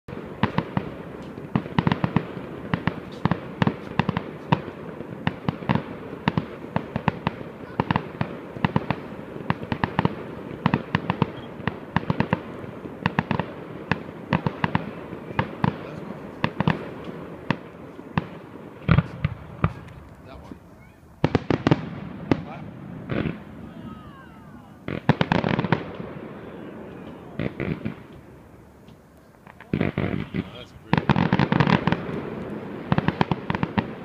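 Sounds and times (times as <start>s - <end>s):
fireworks cracks and bangs: 0.1s - 34.0s.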